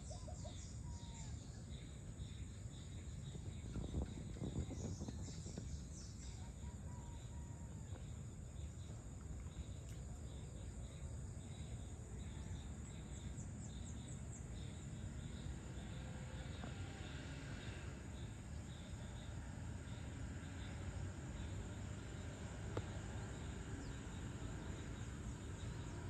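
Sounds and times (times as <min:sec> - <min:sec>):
cricket chirping: 0:00.0 - 0:26.0
low background rumble: 0:00.0 - 0:26.0.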